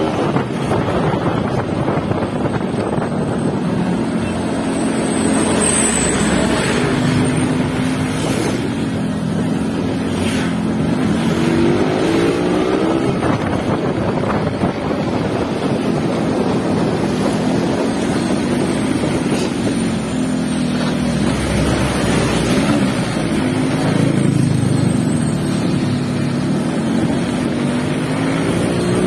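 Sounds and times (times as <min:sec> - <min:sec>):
motorcycle engine accelerating: 0:00.0 - 0:29.0
wind noise on microphone: 0:00.0 - 0:29.0.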